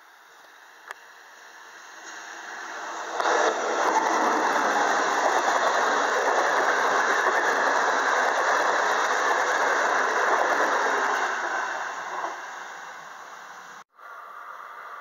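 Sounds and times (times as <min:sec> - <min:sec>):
train wheels rushing on track: 0:00.7 - 0:13.8.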